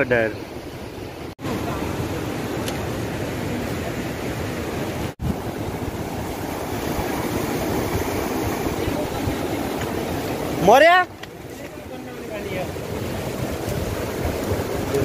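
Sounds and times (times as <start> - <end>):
river rushing over rapids: 0.7 - 15.0.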